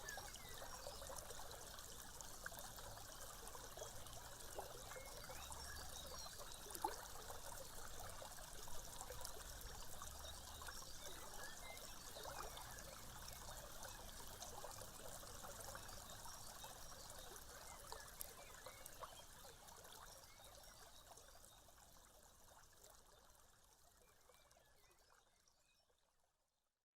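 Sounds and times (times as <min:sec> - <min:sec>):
water trickling: 0:00.0 - 0:25.6.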